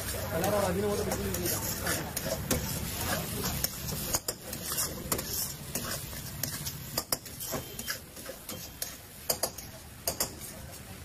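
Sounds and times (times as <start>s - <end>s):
metal ladle scraping a wok: 0.0s - 10.7s.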